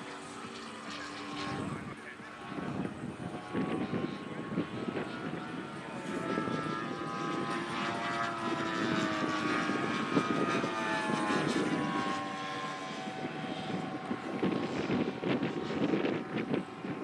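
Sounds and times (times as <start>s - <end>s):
model aircraft engines droning: 0.0s - 17.0s.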